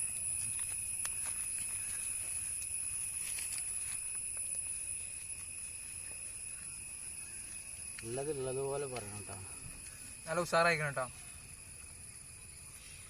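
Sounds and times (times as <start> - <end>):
insects shrilling: 0.0 - 13.0.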